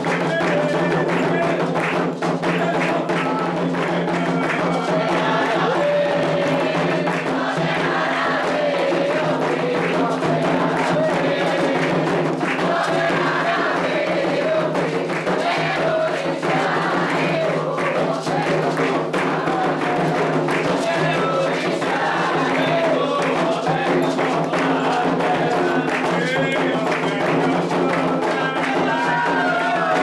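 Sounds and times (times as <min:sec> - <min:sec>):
group of voices chanting: 0:00.0 - 0:30.0
hand drums beating: 0:00.0 - 0:30.0.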